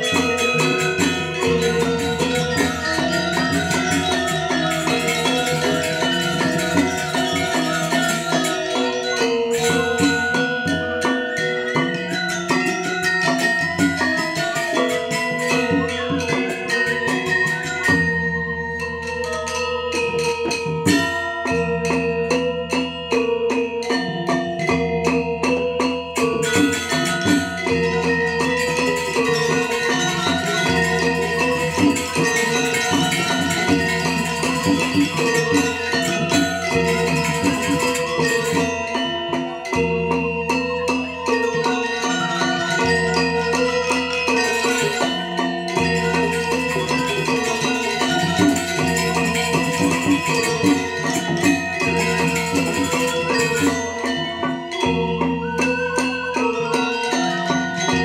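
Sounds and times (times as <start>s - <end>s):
metallophones ringing: 0.0s - 58.0s.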